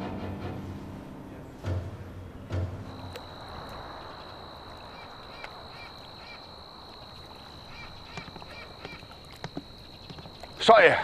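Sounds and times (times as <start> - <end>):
soft steady hiss: 0.0 - 11.0.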